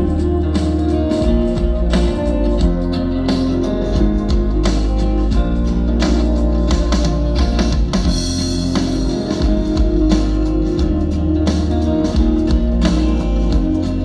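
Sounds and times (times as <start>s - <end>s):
pop-rock song with deep bass: 0.0s - 14.0s.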